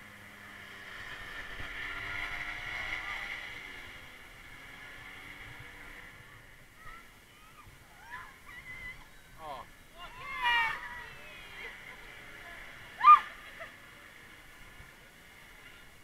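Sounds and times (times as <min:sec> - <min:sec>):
paramotor engine passing overhead: 0:00.0 - 0:16.0.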